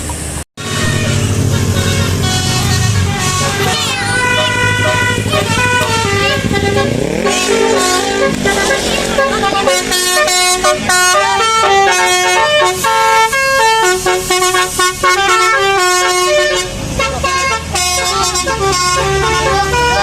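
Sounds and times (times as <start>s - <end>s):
multi-tone bus horn playing a tune: 0.6s - 20.0s.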